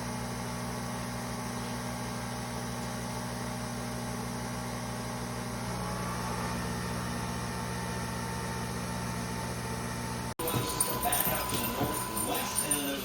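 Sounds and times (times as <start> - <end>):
coffee machine motor hum: 0.0 - 13.0.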